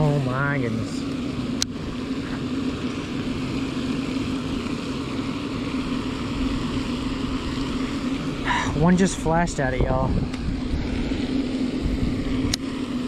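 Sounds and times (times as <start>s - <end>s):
low mechanical hum: 0.0s - 13.0s
outdoor background noise: 0.0s - 13.0s.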